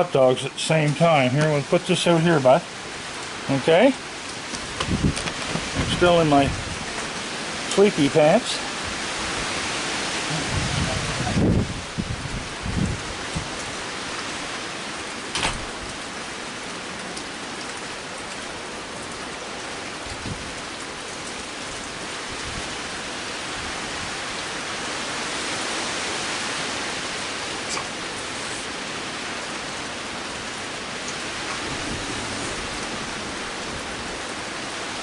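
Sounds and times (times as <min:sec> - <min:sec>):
heavy rain: 0:00.0 - 0:35.0.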